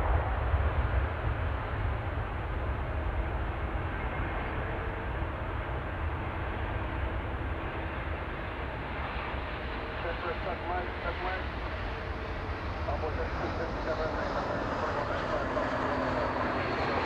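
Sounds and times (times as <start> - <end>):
faint engine whine: 0.0 - 17.0
jet engines rumbling: 0.0 - 17.0.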